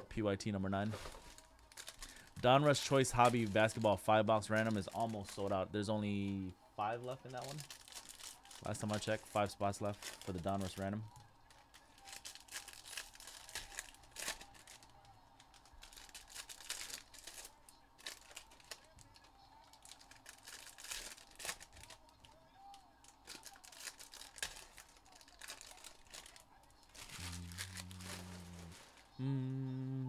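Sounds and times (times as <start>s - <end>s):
foil wrappers tearing and crinkling: 0.9s - 5.5s, 7.2s - 10.8s, 11.5s - 29.0s.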